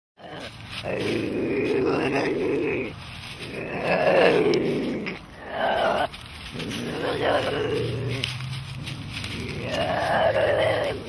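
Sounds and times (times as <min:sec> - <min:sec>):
wild cat yowling: 0:00.2 - 0:08.3, 0:09.3 - 0:11.0.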